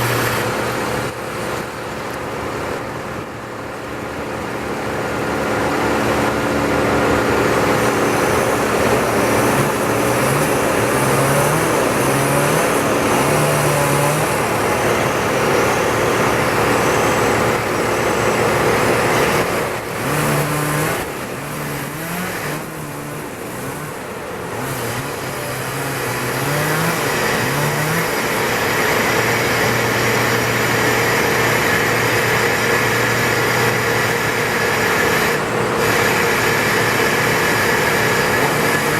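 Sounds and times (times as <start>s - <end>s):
engine revving: 0.0s - 1.7s, 4.5s - 38.9s.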